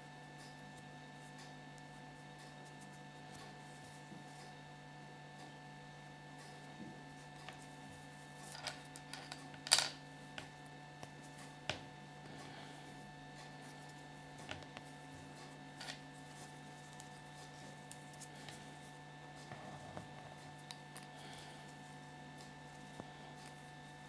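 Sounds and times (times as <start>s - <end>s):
electrical hum: 3.0s - 24.0s.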